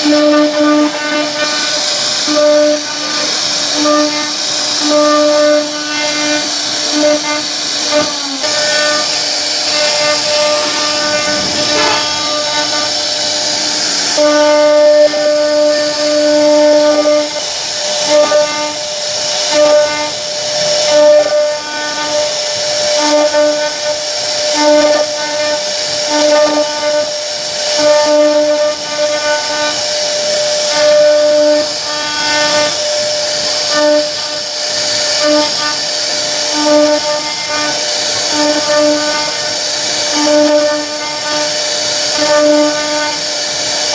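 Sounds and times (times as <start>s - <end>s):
router spindle whine: 0.0s - 43.9s
rushing noise of bit cutting wood: 0.0s - 43.9s.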